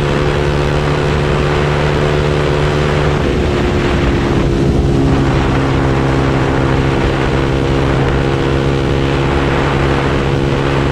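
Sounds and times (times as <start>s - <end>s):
motorcycle engine at steady throttle: 0.0s - 10.9s.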